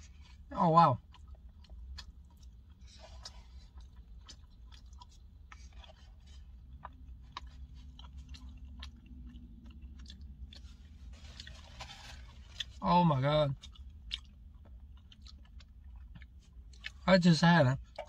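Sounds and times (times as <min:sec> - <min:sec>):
close-up chewing: 0:00.0 - 0:17.1, 0:17.8 - 0:18.0
low steady hum: 0:00.0 - 0:18.0.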